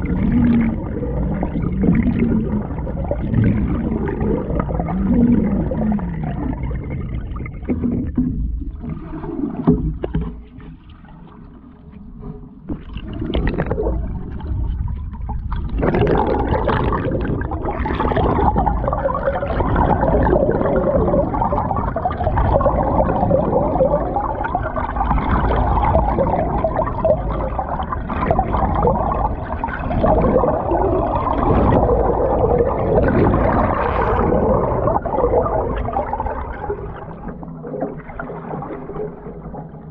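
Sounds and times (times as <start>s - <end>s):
underwater paddle strokes gurgling: 0.0s - 39.9s.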